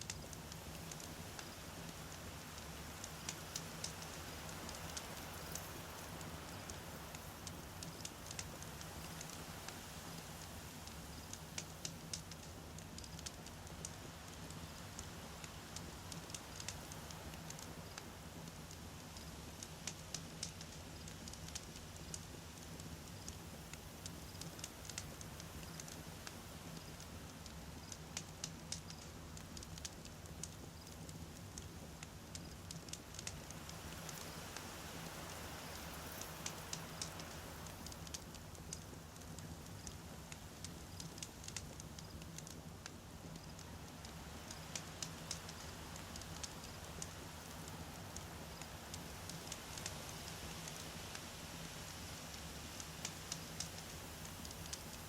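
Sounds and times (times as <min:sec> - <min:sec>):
campfire crackling: 0:00.0 - 0:55.0
low rumble of flames: 0:00.0 - 0:55.0
soft hiss: 0:00.0 - 0:55.0.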